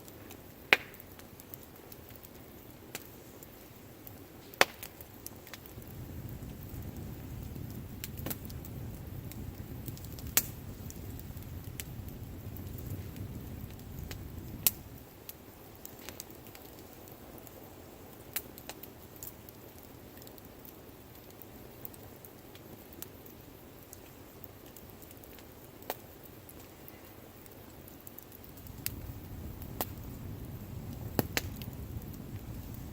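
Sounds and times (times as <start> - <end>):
loud fire snaps: 0.0 - 32.9
wood fire crackling: 0.0 - 32.9.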